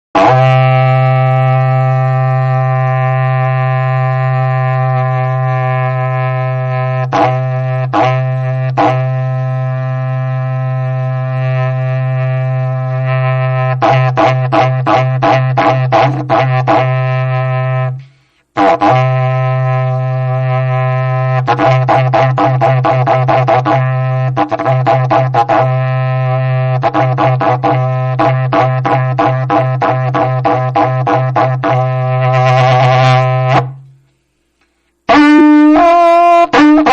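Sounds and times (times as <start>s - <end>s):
horn droning low note: 0.2s - 34.0s.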